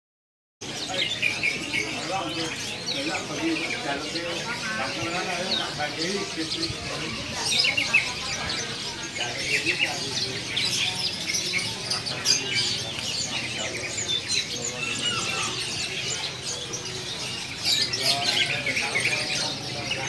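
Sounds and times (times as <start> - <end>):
caged birds chirping: 0.6 - 20.0.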